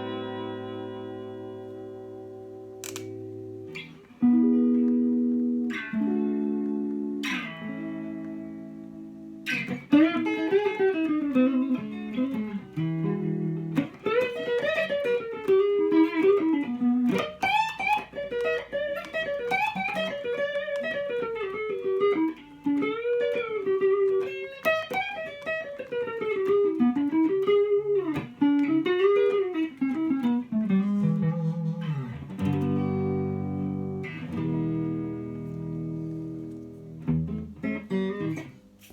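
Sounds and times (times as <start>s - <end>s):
electric guitar lead line with bends: 0.0s - 38.9s
electric guitar strummed chords: 0.0s - 38.9s.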